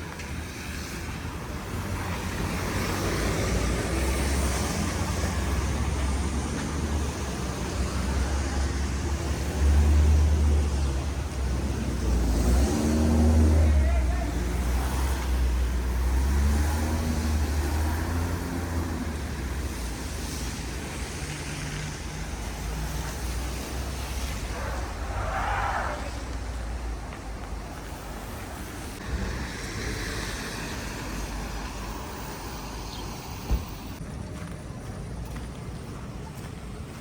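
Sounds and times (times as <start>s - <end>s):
traffic noise: 0.0s - 37.0s
vehicle engine rumbling: 0.9s - 37.0s.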